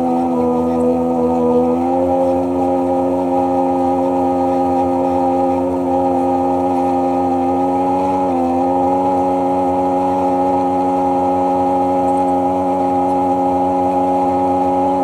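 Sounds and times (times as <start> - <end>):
personal watercraft engine running: 0.0 - 15.0.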